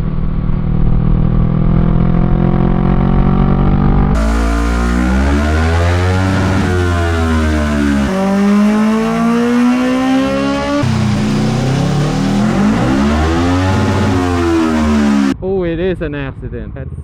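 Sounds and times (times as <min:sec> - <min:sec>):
motorcycle engine revving: 0:01.0 - 0:15.4.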